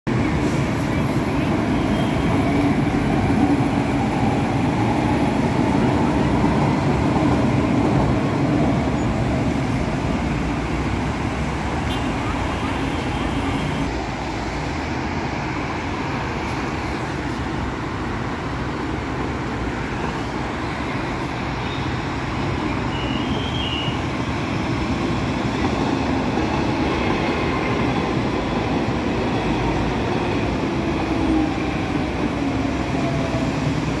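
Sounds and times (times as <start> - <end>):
heavy road traffic: 0.0 - 34.0
metro train on track: 0.1 - 34.0.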